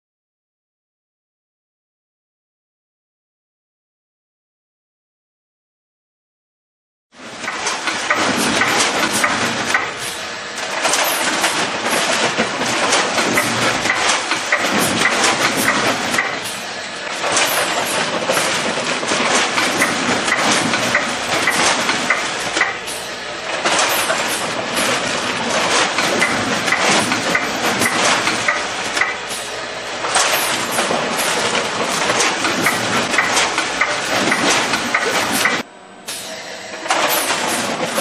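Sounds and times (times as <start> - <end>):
bagging machine clatter: 7.2 - 38.0.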